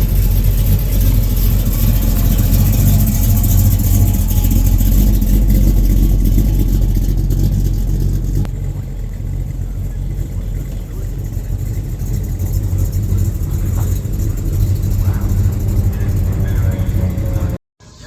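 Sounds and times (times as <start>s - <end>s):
car engines rumbling: 0.0s - 17.6s.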